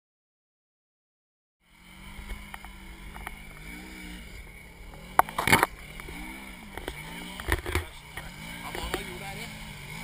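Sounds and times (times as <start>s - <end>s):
utv engine revving: 1.6s - 10.0s.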